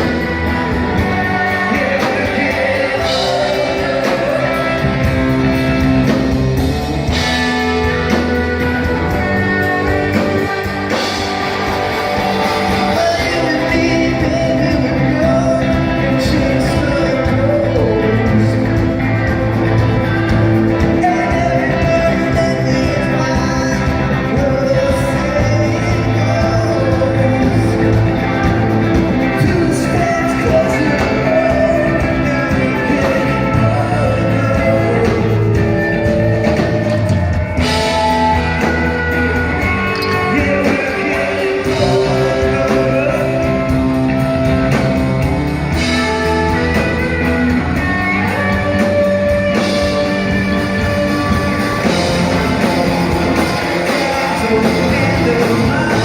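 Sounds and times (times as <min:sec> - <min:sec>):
person singing: 0:00.0 - 0:06.4, 0:07.0 - 0:44.8, 0:45.7 - 0:56.0
rock band playing live: 0:00.0 - 0:56.0.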